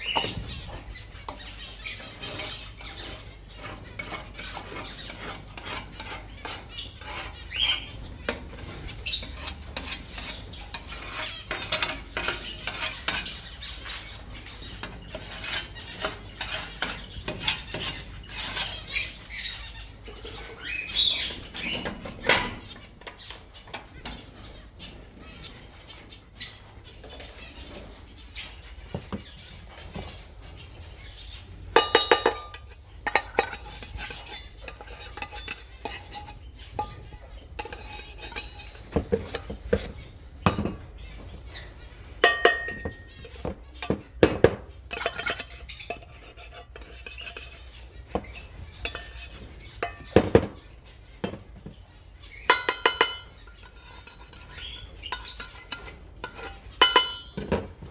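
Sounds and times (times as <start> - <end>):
feed dishes clinking and rattling: 0.0 - 25.7, 26.4 - 57.9
birds fluttering: 0.0 - 57.9
small birds chirping: 0.0 - 57.9.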